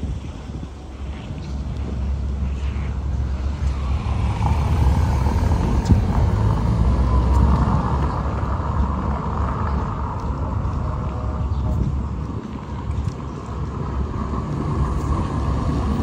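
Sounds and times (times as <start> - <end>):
low rumble: 0.0 - 16.0
vehicle passing: 2.5 - 16.0.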